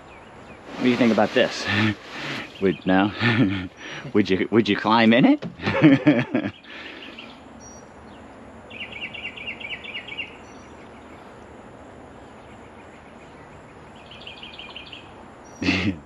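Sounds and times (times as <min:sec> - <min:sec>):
bird chirping: 0:00.0 - 0:04.5, 0:06.4 - 0:11.4, 0:12.2 - 0:16.0
outdoor background hiss: 0:00.0 - 0:16.0.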